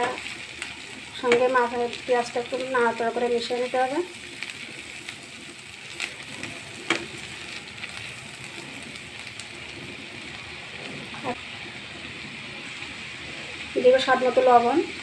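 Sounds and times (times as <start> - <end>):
spatula stirring in a pan: 0.0 - 14.1
onions sizzling in a frying pan: 0.0 - 15.0.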